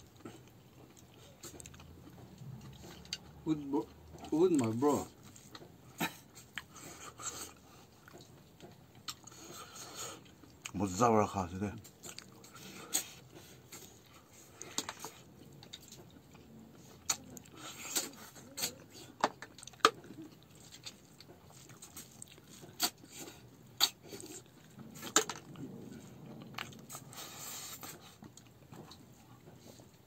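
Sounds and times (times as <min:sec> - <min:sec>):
man chewing food: 0:00.0 - 0:10.8, 0:11.8 - 0:30.0.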